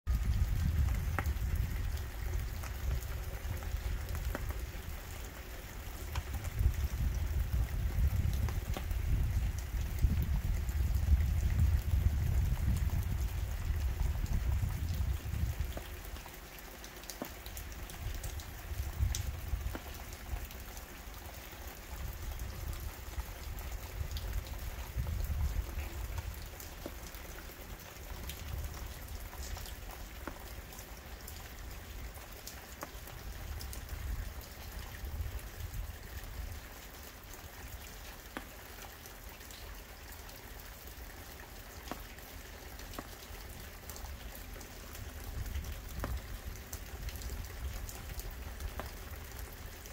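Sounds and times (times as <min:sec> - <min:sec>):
rain on concrete: 0:00.0 - 0:49.9.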